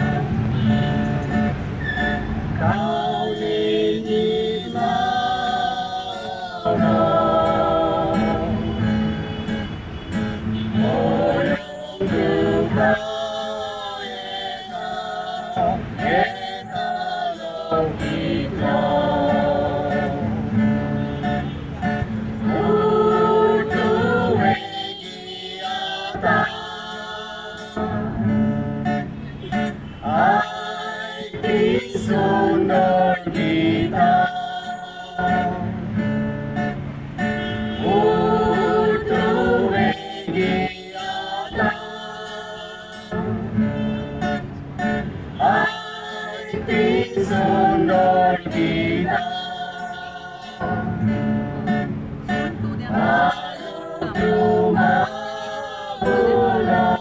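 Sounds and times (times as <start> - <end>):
acoustic guitar: 0.0 - 57.0
people singing a carol: 0.0 - 57.0.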